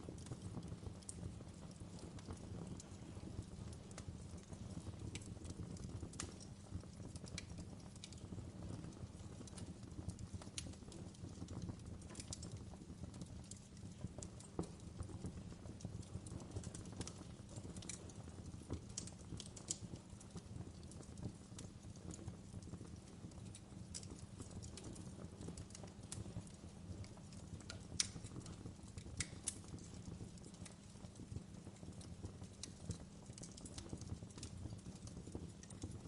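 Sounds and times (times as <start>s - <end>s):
fire crackling and popping: 0.0s - 36.0s
low rumble of flames: 0.0s - 36.0s.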